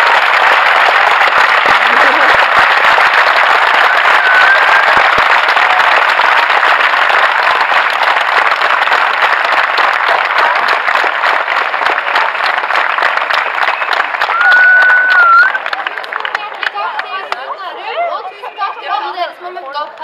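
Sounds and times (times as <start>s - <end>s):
hands clapping close by: 0.0s - 17.5s
audience applauding: 0.0s - 18.2s.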